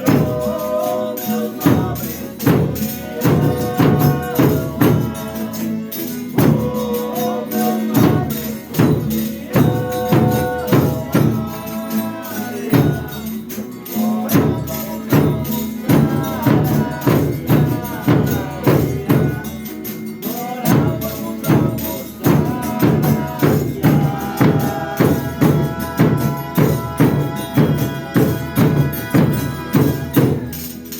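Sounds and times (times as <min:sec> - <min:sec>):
tambourine beat: 0:00.0 - 0:30.9.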